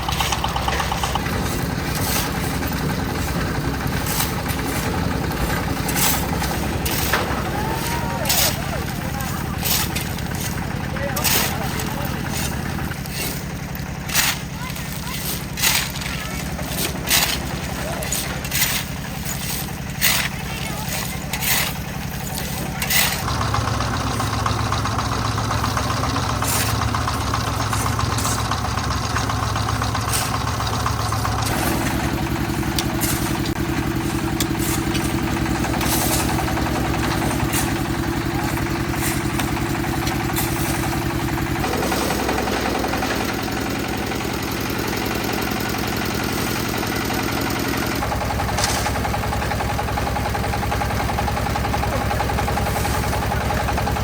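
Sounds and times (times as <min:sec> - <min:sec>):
concrete mixer engine running: 0:00.0 - 0:54.0.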